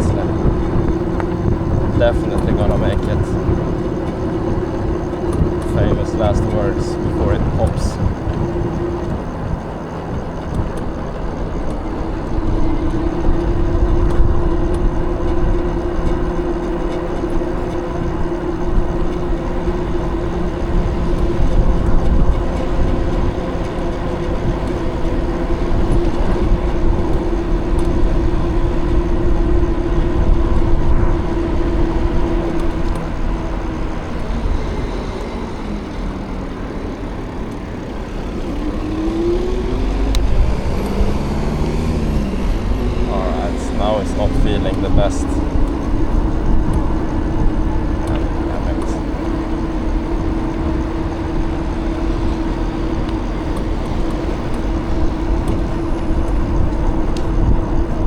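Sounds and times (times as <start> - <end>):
e-bike motor whining: 0.0 - 58.0
wind and tyre rumble: 0.0 - 58.0.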